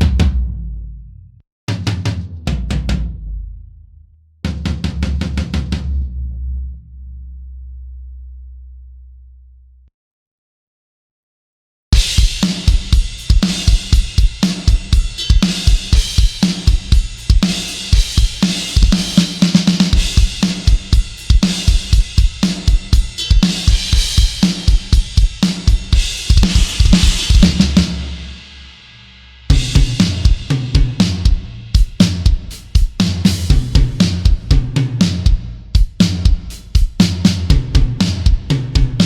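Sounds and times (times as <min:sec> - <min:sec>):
metal drum groove: 0:00.0 - 0:00.8, 0:01.7 - 0:03.7, 0:04.4 - 0:06.3, 0:12.0 - 0:39.0.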